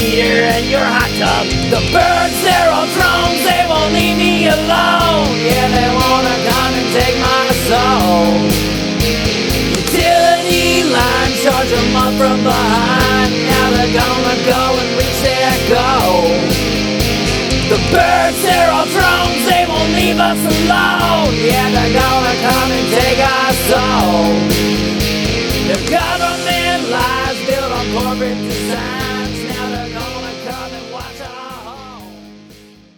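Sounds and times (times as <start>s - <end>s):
rock band instrumental: 0.0s - 32.9s.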